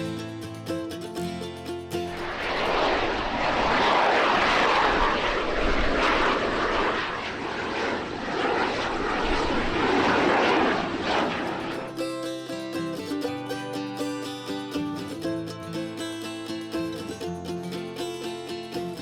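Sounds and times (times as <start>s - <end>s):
airplane engine rushing: 0.0s - 19.0s.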